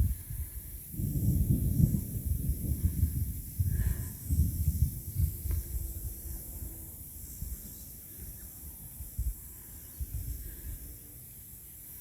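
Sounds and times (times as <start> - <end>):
wind buffeting microphone: 0.0 - 10.9
steady high hiss: 0.0 - 12.0.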